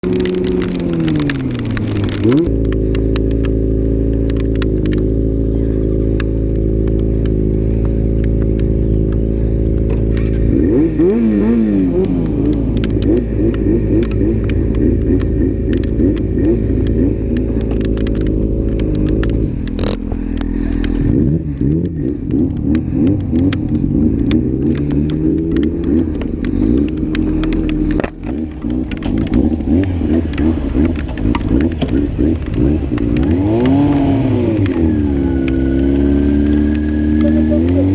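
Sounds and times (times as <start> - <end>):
motorcycle engines revving: 0.0 - 37.9
motorcycle engine idling: 1.6 - 10.6, 12.3 - 37.9.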